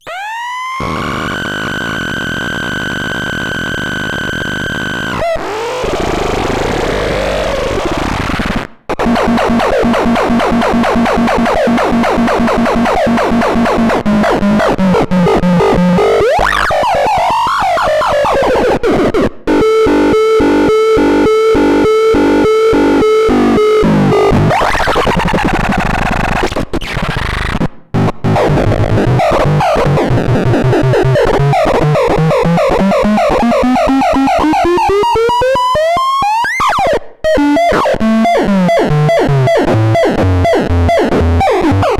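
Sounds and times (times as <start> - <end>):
harsh buzzy synthesizer tones: 0.0 - 41.9.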